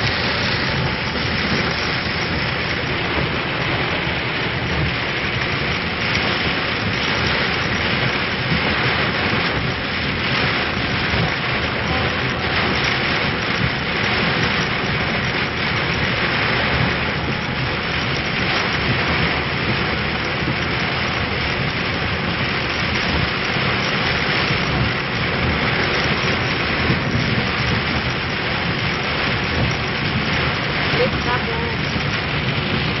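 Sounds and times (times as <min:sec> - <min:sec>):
heavy rain on vehicle roof: 0:00.0 - 0:33.0.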